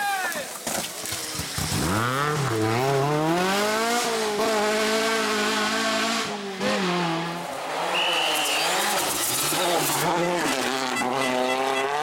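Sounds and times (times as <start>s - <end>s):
car engine accelerating hard: 1.6s - 12.0s.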